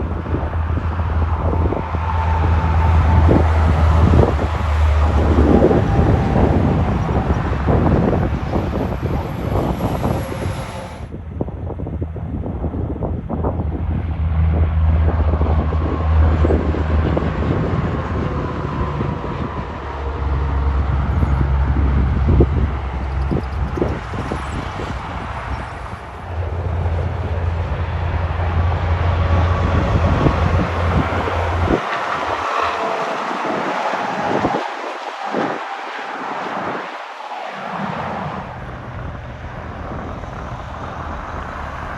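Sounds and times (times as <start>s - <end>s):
truck engine passing: 0.0s - 11.1s, 13.7s - 41.9s
traffic: 0.0s - 41.9s
wind buffeting microphone: 0.0s - 41.9s.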